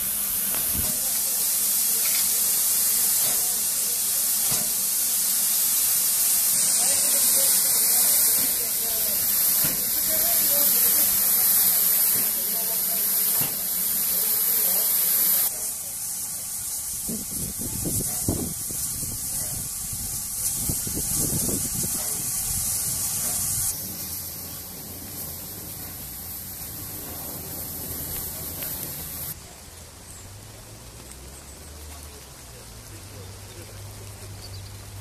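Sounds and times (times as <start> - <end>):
steam hissing from locomotive: 0.0 - 30.2.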